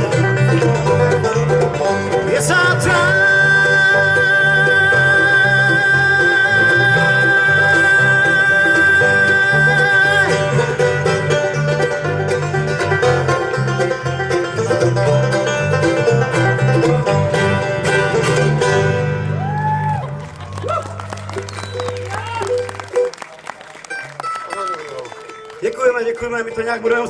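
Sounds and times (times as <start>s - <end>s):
bluegrass band music: 0.0s - 27.0s
picked banjo: 0.0s - 27.0s.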